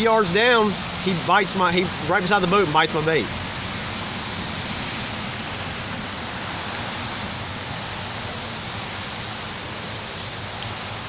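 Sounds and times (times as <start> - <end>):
rain falling on wet pavement: 0.0 - 11.0.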